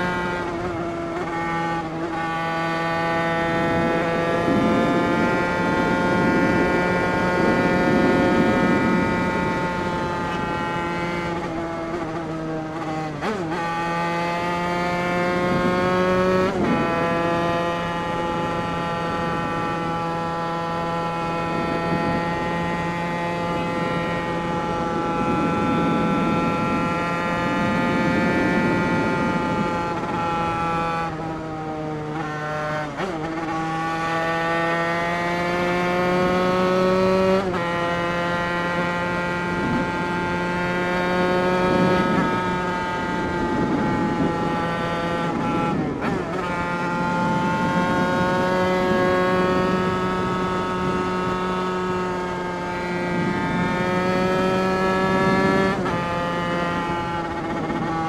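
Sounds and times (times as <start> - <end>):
two-stroke engine running hard: 0.0 - 31.2, 32.2 - 58.0.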